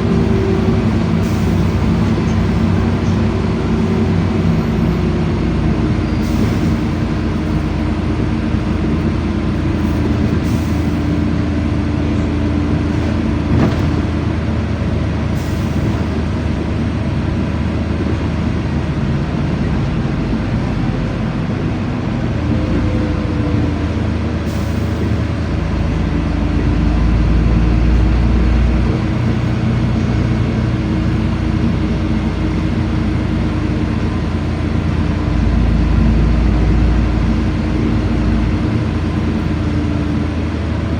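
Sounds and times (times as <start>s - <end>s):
bus engine and road noise: 0.0s - 40.9s.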